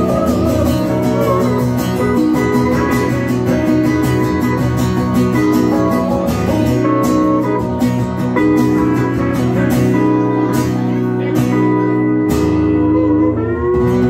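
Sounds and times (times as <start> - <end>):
acoustic guitar strumming: 0.0 - 14.0
pedal steel guitar long notes: 0.0 - 14.0.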